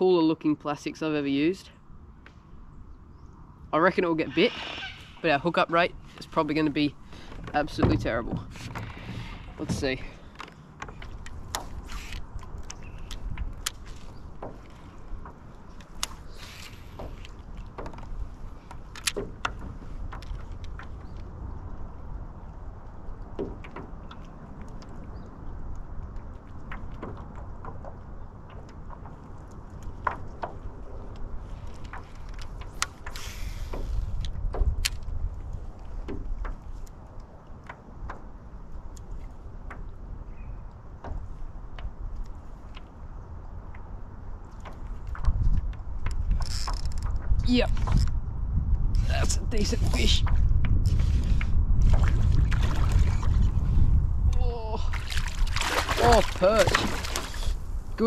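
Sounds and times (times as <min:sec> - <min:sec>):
wind rumble on microphone: 0:01.0 - 0:58.0.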